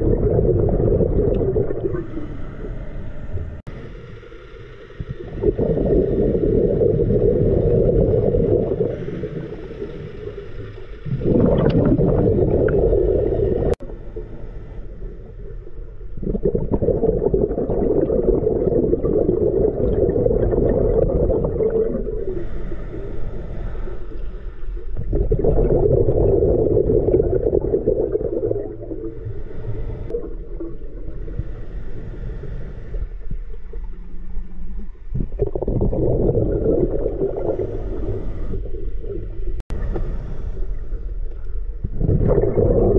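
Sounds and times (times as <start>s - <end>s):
underwater bubbles gurgling: 0.0s - 42.9s.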